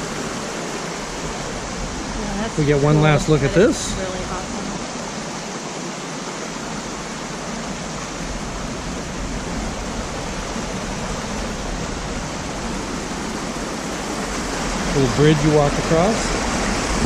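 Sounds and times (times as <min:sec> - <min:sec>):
water rushing over waterfall: 0:00.0 - 0:17.0.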